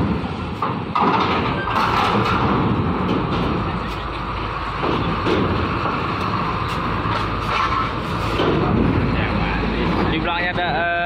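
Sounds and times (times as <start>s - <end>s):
diesel truck running: 0.0s - 11.0s
steel grating clanking: 0.2s - 9.2s.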